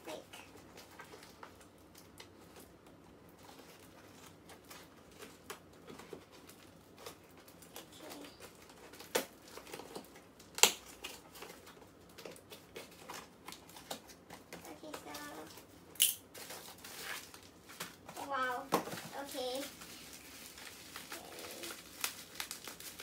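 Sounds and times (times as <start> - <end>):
rustling: 0.1 - 10.2, 11.0 - 23.0.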